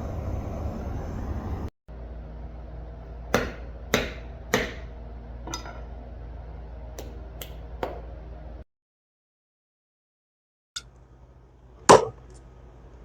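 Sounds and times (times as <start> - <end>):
steady low hum: 0.0 - 8.6, 10.8 - 13.0.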